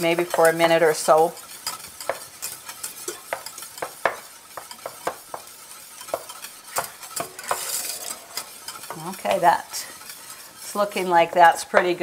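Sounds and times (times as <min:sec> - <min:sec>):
food sizzling in a skillet: 0:00.0 - 0:12.0
utensils tapping and scraping metal pans: 0:00.0 - 0:12.0.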